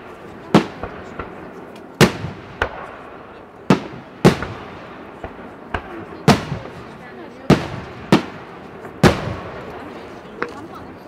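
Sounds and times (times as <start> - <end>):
light firework cracks: 0.0 - 10.8.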